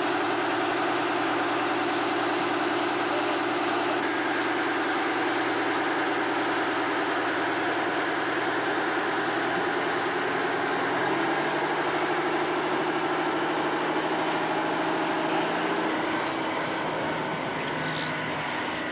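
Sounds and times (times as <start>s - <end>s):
large engine humming steadily: 0.0s - 18.9s.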